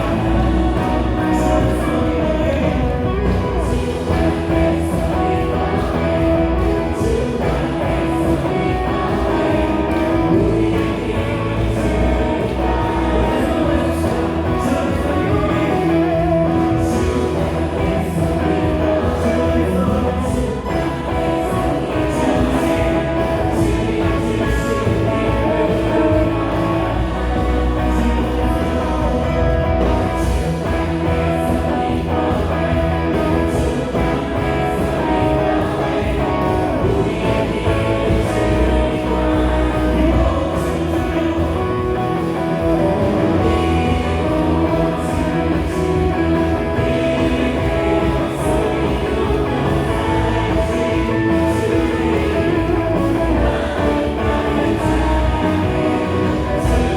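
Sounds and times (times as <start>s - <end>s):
people singing: 0.0s - 56.9s
worship band playing: 0.0s - 56.9s.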